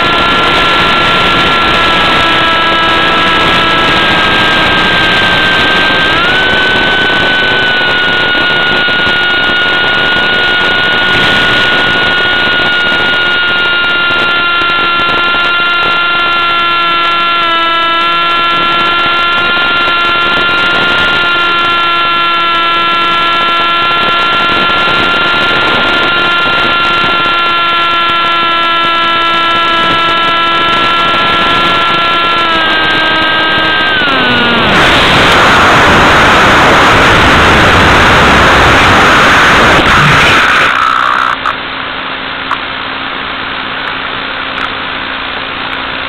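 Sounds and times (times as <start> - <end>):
model plane motor whining: 0.0 - 41.6.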